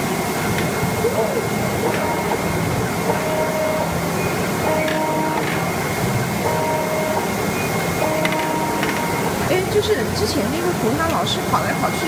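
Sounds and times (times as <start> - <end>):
constant high tone: 0.0 - 12.0
drive motors whining: 0.0 - 12.0.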